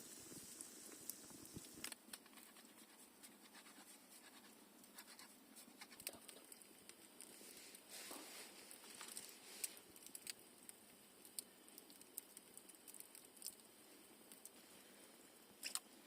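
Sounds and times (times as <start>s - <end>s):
campfire crackling faintly: 0.0s - 16.0s
soft hiss: 0.0s - 16.0s.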